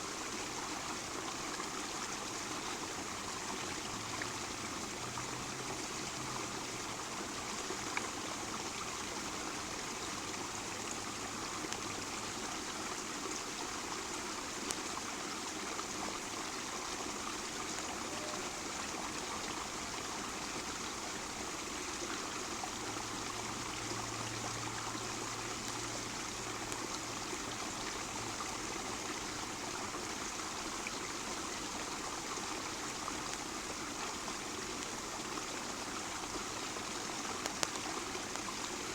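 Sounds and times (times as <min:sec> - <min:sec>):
creek water flowing: 0:00.0 - 0:38.9.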